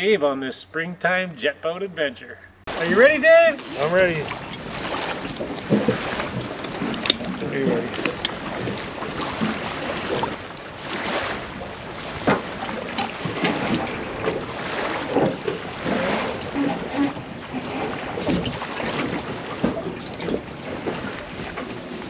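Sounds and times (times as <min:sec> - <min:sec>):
wind buffeting microphone: 0:02.7 - 0:22.0.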